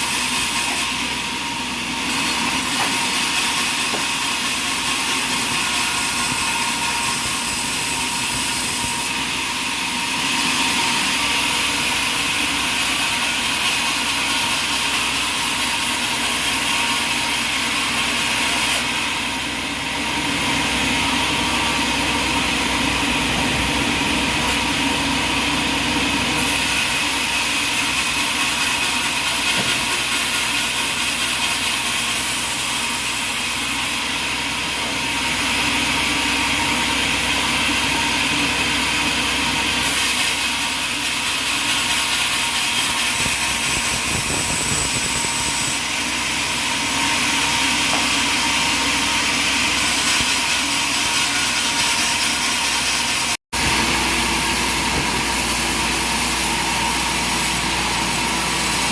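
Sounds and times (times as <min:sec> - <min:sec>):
saw cutting through log: 0:00.0 - 0:58.9.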